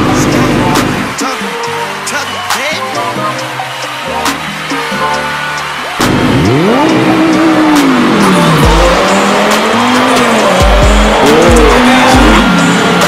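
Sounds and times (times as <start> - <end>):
car engine revving: 0.0 - 13.0
music with deep bass hits: 0.0 - 13.0.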